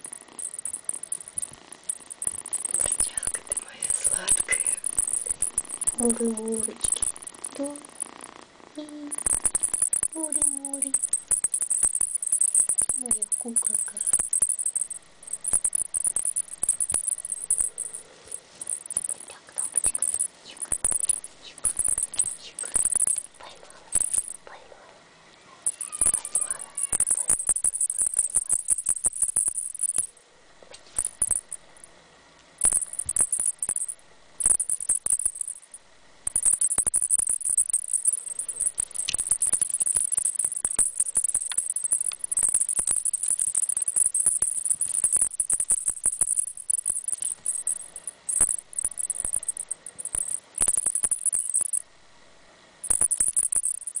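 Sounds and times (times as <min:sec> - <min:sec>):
toy rattle shaken: 0:00.0 - 0:08.3, 0:08.9 - 0:24.5, 0:25.6 - 0:30.1, 0:30.8 - 0:31.6, 0:32.6 - 0:51.8, 0:52.8 - 0:54.0.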